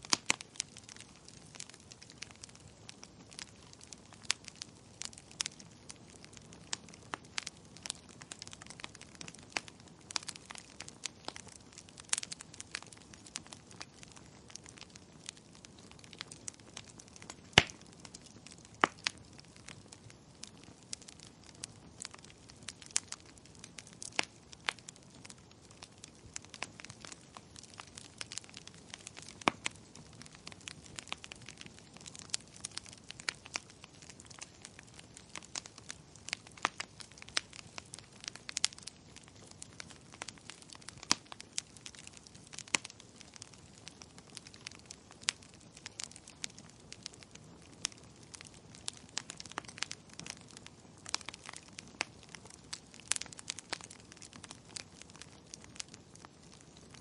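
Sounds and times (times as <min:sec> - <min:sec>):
wood fire popping and crackling: 0:00.0 - 0:57.0.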